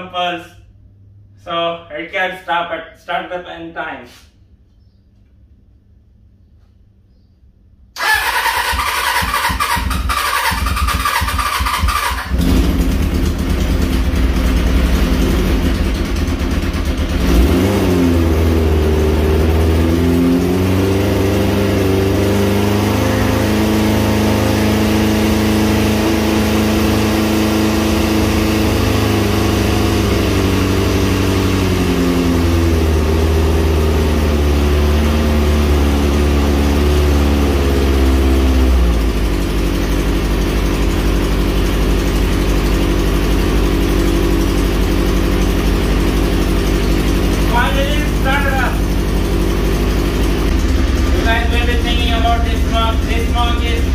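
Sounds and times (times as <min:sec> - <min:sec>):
quad bike engine running: 0:08.0 - 0:53.9.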